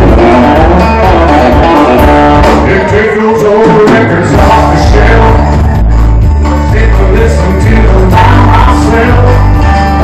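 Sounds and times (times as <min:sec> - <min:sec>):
heavy bass and drums: 0:00.0 - 0:10.0
live rock band playing: 0:00.0 - 0:10.0.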